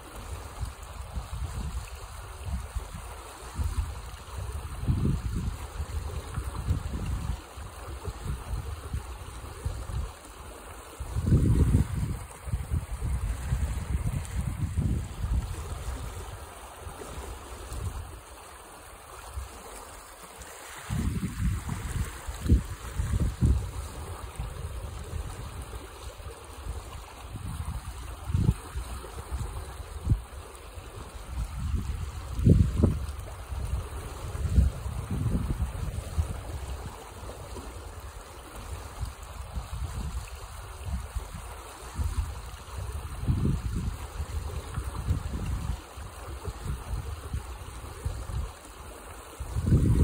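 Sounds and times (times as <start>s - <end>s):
turbulent water rushing: 0.0s - 50.0s
wind buffeting microphone: 0.3s - 10.2s, 11.0s - 18.3s, 20.8s - 48.6s, 49.4s - 50.0s.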